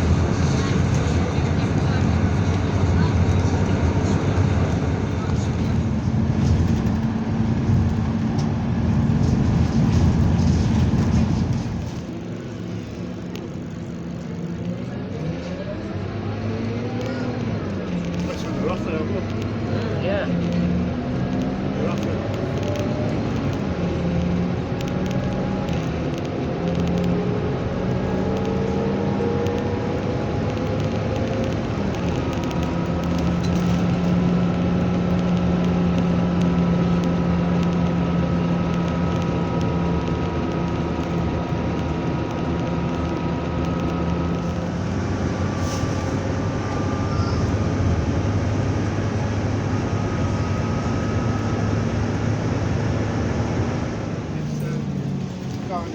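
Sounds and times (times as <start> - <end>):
bus engine drone: 0.0 - 55.9.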